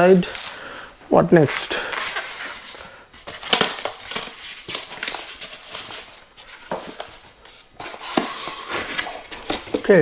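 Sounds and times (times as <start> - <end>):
plastic packaging crinkling: 1.4 - 10.0.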